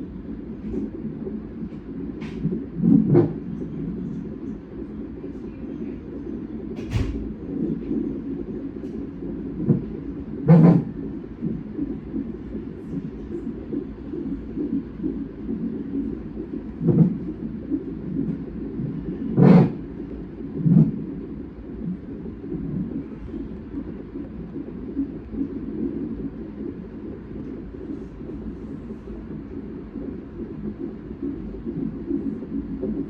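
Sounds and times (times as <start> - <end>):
fetal heartbeat pulsing: 0.0 - 33.0.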